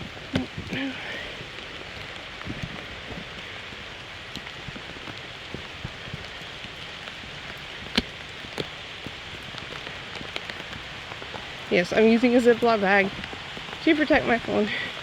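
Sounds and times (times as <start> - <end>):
raindrops tapping on plastic bag: 0.0 - 15.0
steady rain: 0.0 - 15.0.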